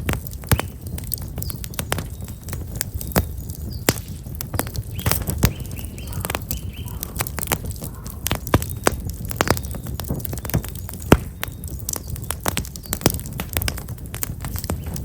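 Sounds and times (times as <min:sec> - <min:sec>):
campfire crackling and popping: 0:00.0 - 0:15.0
small birds chirping: 0:00.2 - 0:15.0.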